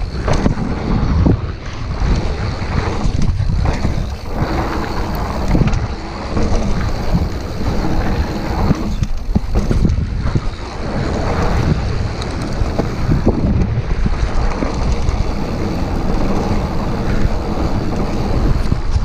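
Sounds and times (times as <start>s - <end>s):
bike rattling and knocking: 0.0s - 19.0s
tyres on loose dirt: 0.0s - 19.0s
wind rushing over microphone: 0.0s - 19.0s.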